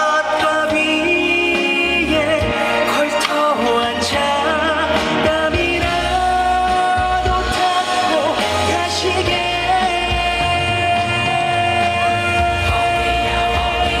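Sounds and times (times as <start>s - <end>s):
band backing music: 0.0s - 14.0s
man singing with vibrato: 0.0s - 14.0s.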